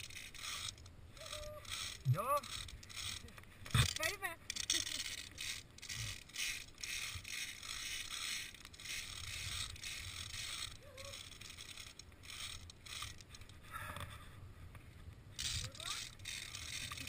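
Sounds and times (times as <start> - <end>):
carabiners scraping along steel cable: 0.0 - 14.3, 15.3 - 17.0.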